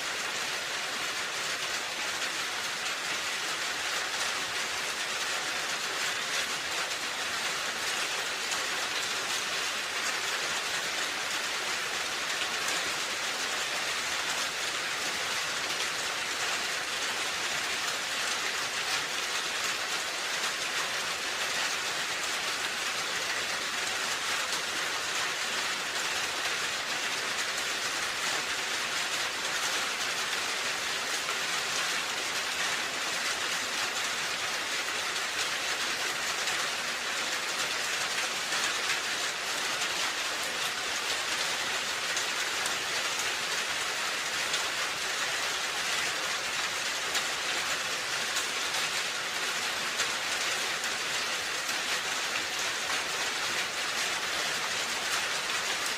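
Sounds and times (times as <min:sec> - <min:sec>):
rain on a roof: 0:00.0 - 0:55.9.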